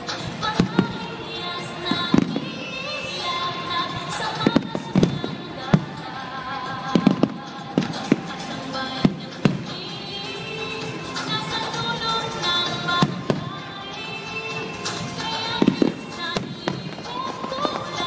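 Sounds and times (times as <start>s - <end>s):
fireworks bursting: 0.0s - 18.0s
music: 0.0s - 18.0s.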